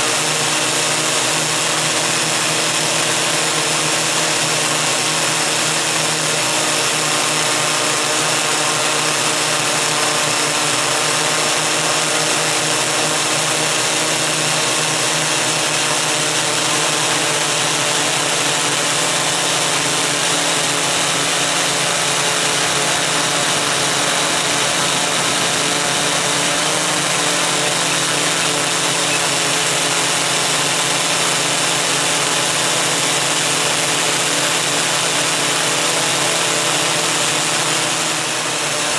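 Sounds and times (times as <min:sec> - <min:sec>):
electric motors whining: 0:00.0 - 0:38.9
propeller wash rushing: 0:00.0 - 0:38.9.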